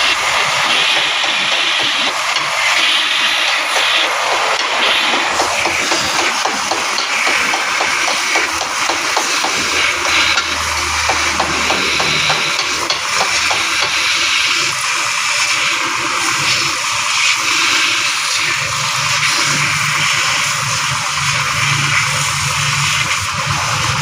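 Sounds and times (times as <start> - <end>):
water jet spraying: 0.0 - 24.0.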